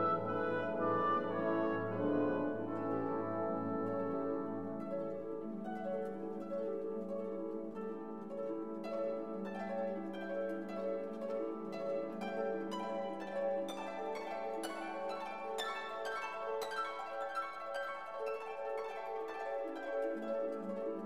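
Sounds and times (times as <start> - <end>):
instrumental music with held tones: 0.0 - 21.0
plucked notes: 0.0 - 21.0.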